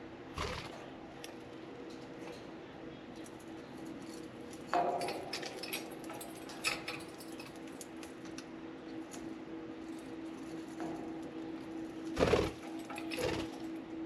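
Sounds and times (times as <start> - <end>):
birds pecking small clicks: 1.2 - 2.5, 3.1 - 13.9.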